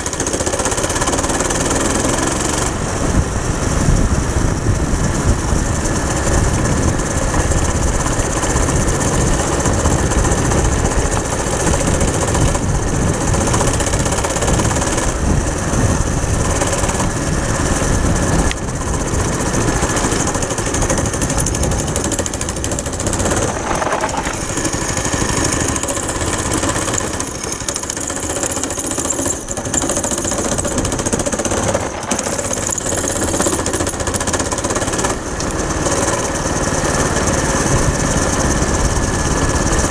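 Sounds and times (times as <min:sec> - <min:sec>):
go-kart engine rattling drone: 0:00.0 - 0:39.9.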